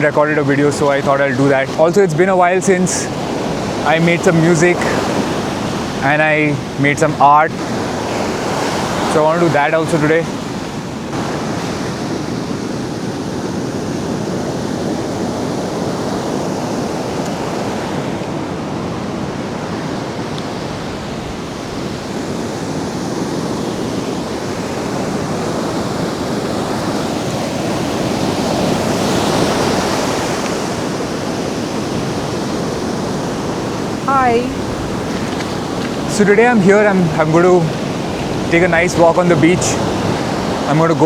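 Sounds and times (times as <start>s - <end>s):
sea waves breaking on beach: 0.0s - 41.0s.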